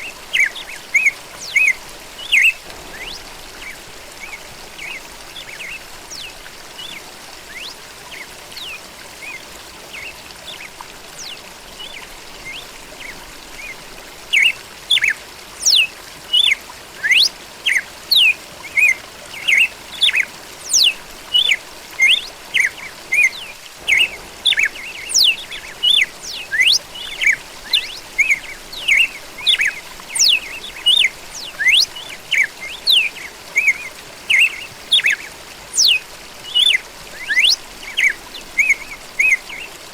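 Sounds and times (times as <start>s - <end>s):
trickle of running water: 0.0s - 39.9s
bird singing whistled notes: 0.3s - 39.7s.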